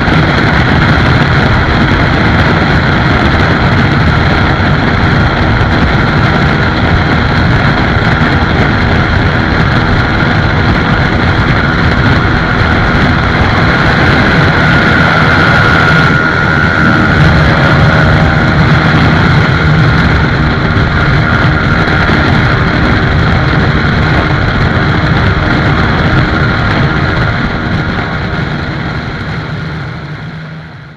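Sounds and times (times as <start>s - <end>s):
motorcycle engine and road noise: 0.0s - 30.9s.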